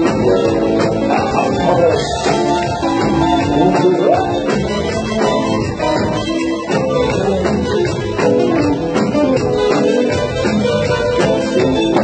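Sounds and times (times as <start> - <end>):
drum kit: 0.0 - 12.0
electric bass: 0.0 - 12.0
guitar: 0.0 - 12.0
live band playing: 0.0 - 12.0.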